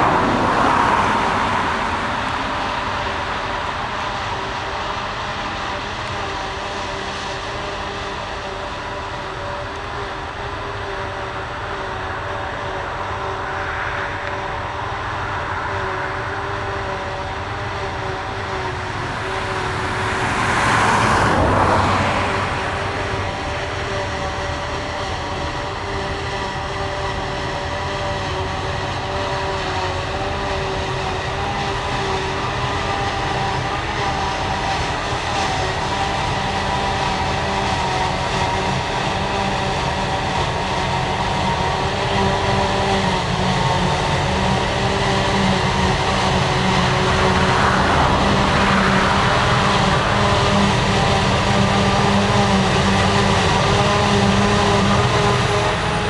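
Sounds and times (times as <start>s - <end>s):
harvester and tractors running: 0.0s - 56.0s
mechanical whine: 0.0s - 56.0s.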